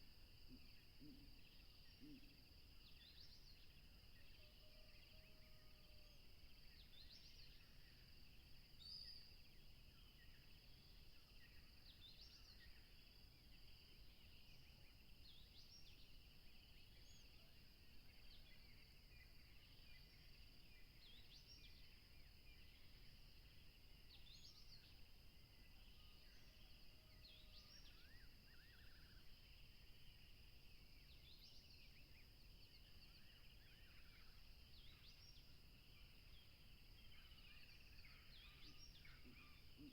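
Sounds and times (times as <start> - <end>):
faint birds chirping: 0.0 - 39.9.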